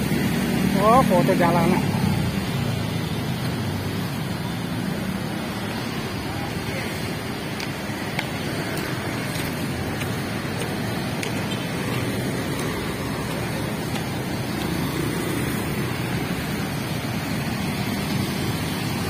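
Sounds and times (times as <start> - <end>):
city road traffic: 0.0 - 19.0.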